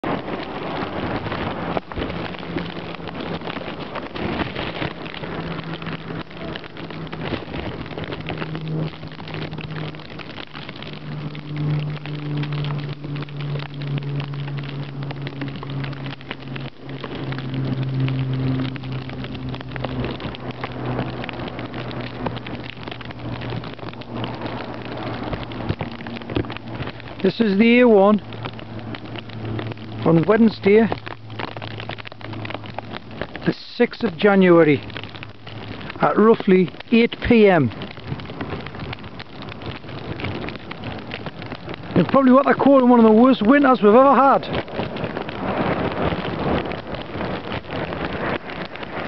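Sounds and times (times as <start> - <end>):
snow pattering on microphone: 0.0 - 49.0.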